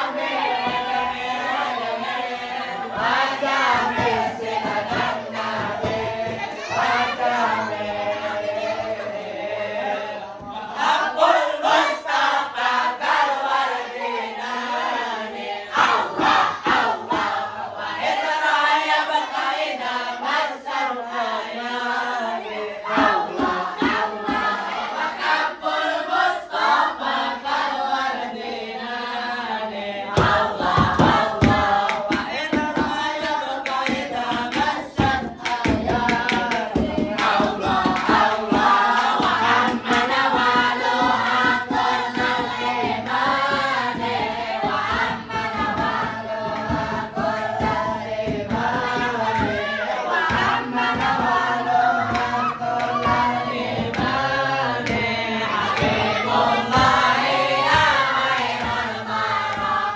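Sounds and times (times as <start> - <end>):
sharp percussive beats: 0.0 - 9.1, 10.4 - 20.8, 21.4 - 26.8, 30.1 - 59.9
group singing devotional songs: 0.0 - 59.9.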